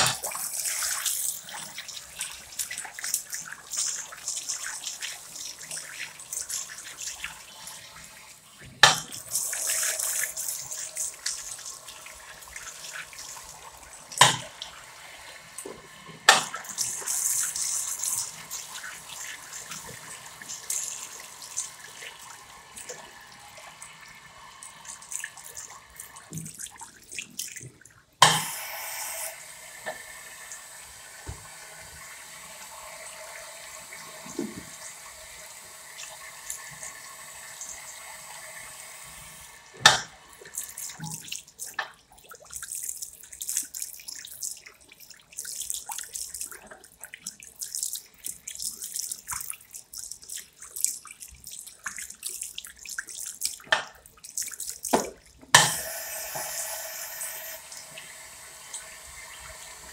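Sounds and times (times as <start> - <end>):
tap water running into sink: 0.0 - 59.9.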